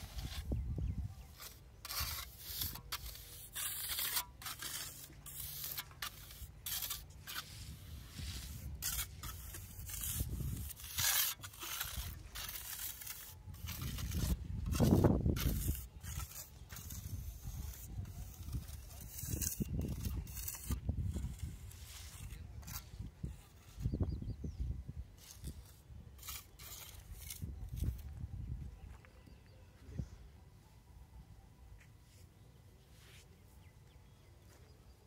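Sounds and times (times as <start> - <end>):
trowel scraping wet cement: 0.0 - 28.1.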